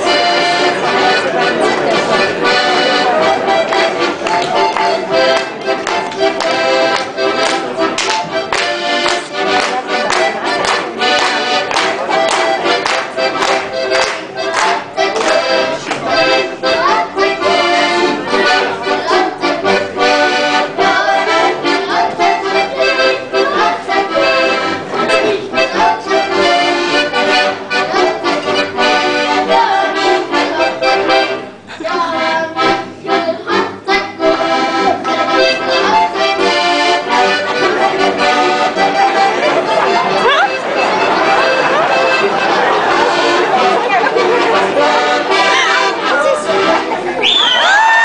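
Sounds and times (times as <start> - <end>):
accordions playing folk tune: 0.0 - 47.6.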